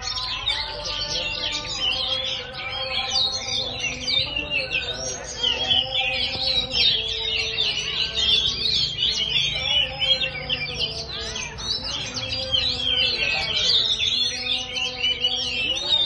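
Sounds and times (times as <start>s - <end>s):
birds singing whistled phrases: 0.0s - 16.0s.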